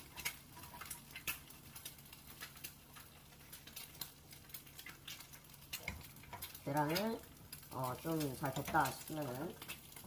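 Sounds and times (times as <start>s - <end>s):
eggs frying in oil: 0.0s - 10.0s.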